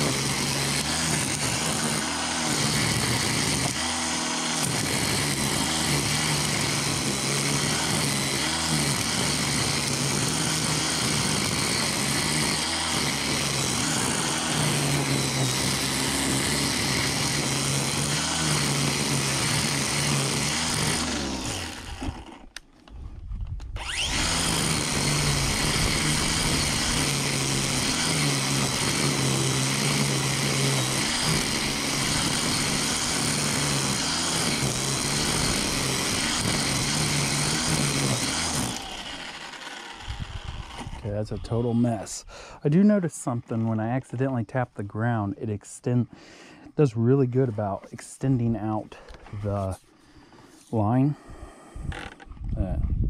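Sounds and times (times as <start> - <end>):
string trimmer running: 0.0 - 52.8.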